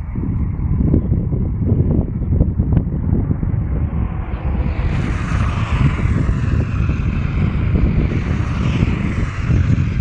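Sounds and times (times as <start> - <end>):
road traffic rushing: 0.0 - 10.0
wind buffeting microphone: 0.0 - 10.0.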